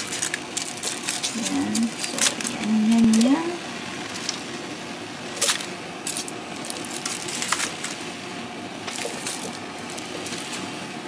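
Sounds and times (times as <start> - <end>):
aluminium foil crinkling: 0.0 - 4.5, 5.4 - 8.0, 8.8 - 10.8.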